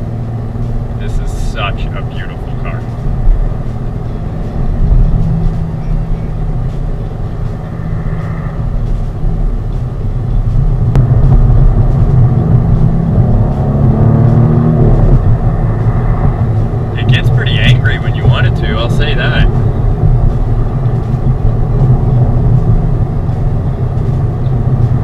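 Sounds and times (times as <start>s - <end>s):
car engine under throttle: 0.0s - 25.0s.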